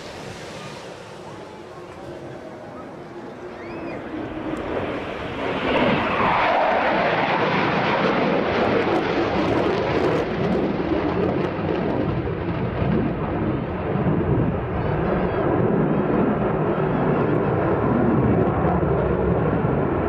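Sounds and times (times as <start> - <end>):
jet passing: 0.0 - 20.0.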